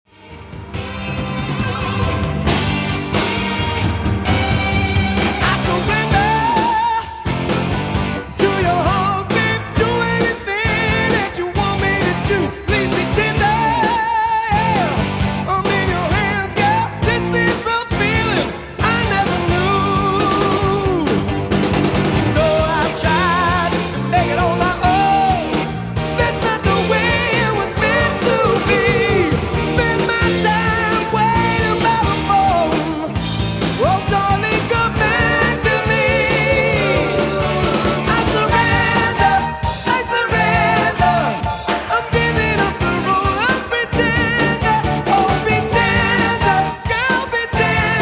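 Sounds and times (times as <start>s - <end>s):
rock song with vocals: 0.2s - 48.0s.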